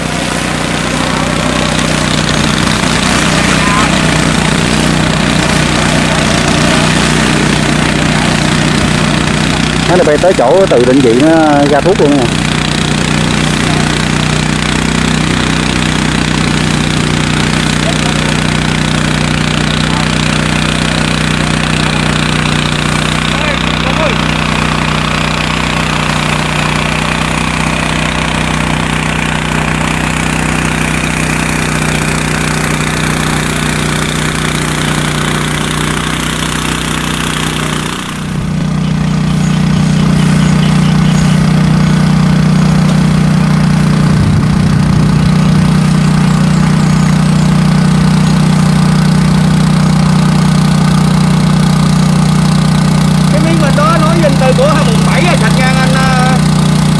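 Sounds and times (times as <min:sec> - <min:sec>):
drone propellers humming: 0:00.0 - 0:56.9.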